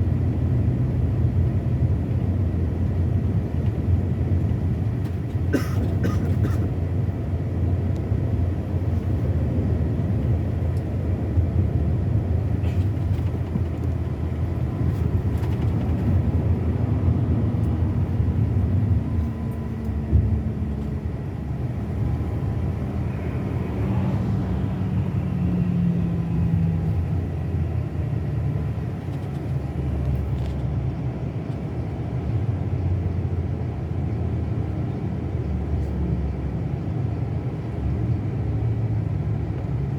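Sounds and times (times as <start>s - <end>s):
diesel coach engine rumble: 0.0s - 39.9s.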